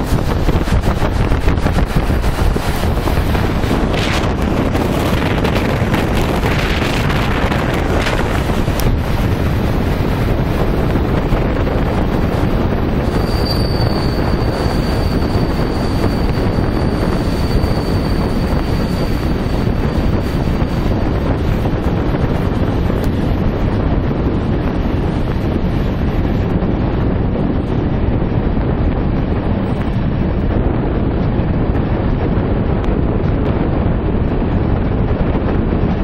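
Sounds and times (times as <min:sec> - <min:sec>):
train running noise: 0:00.0 - 0:36.0
wind rushing over microphone: 0:00.0 - 0:36.0.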